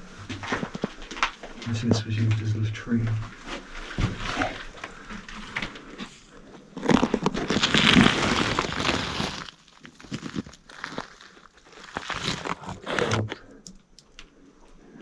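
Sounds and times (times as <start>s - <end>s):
debris crackling and crunching: 0.2s - 2.4s, 3.2s - 14.3s.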